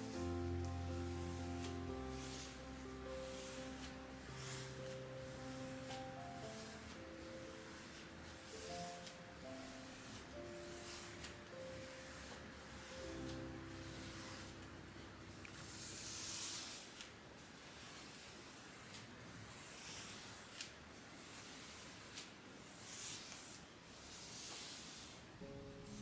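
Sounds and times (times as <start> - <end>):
brush rubbing on canvas: 0.0 - 26.0.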